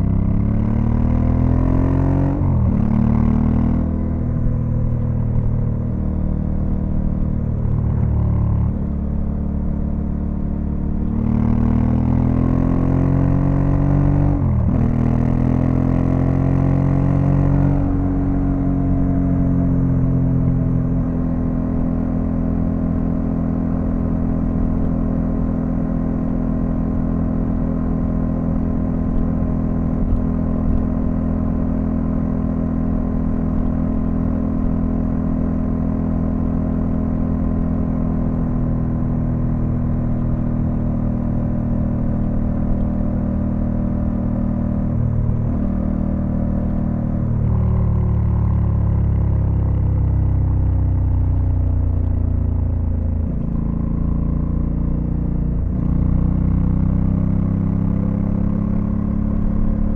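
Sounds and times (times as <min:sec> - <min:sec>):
motorcycle engine under way: 0:00.0 - 0:59.9.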